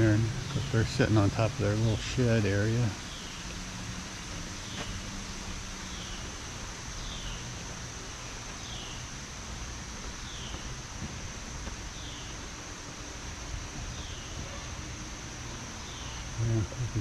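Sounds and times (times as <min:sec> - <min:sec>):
low even hiss: 0:00.0 - 0:17.0
steady high hum: 0:00.0 - 0:17.0.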